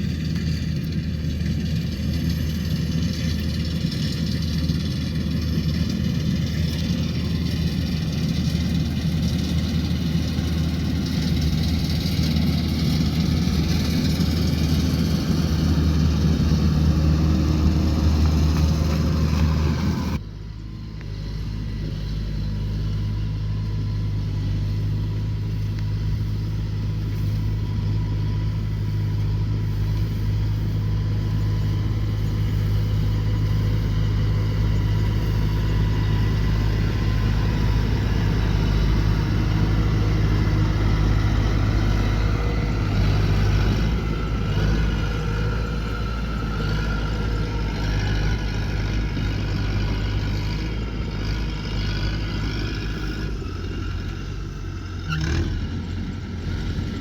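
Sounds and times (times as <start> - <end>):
faint mechanical whine: 0.0 - 55.2
harvester engine drone: 0.0 - 57.0.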